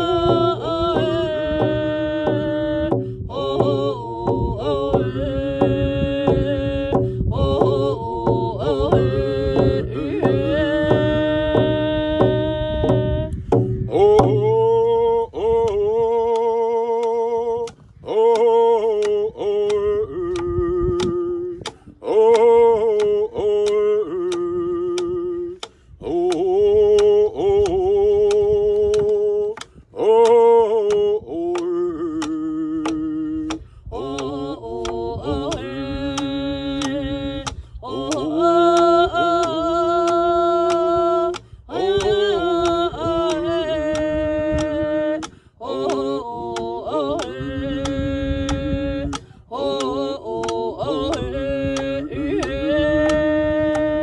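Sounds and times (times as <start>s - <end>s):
hand drums beaten steadily: 0.0s - 54.0s
voices singing slow song: 0.0s - 54.0s.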